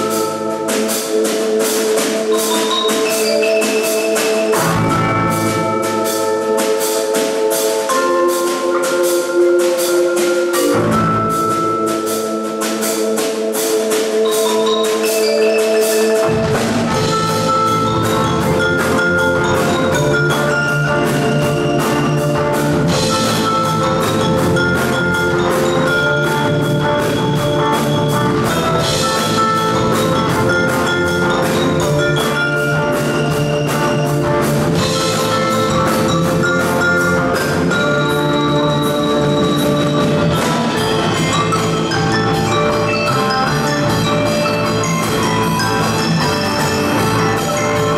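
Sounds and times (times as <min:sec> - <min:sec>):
drum kit: 0:00.0 - 0:47.9
marimbas and vibraphones: 0:00.0 - 0:47.9.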